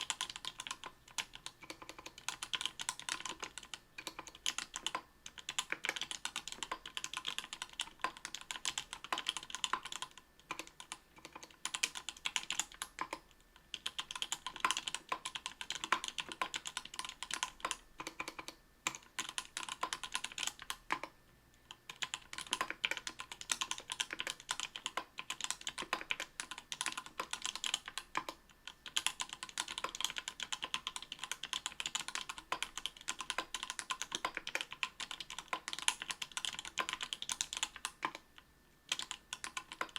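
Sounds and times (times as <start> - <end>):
fast typing on mechanical keyboard: 0.0 - 21.1, 21.7 - 39.9.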